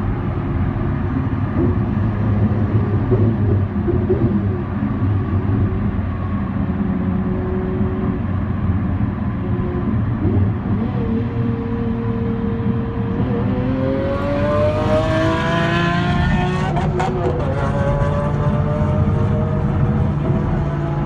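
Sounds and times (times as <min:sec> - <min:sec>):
road noise: 0:00.0 - 0:21.0
sports car engine accelerating: 0:00.6 - 0:21.0.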